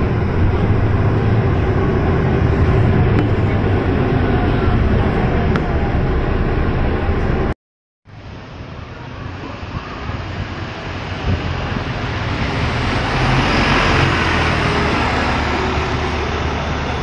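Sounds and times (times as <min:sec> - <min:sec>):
bus diesel engine driving past: 0:00.0 - 0:17.0.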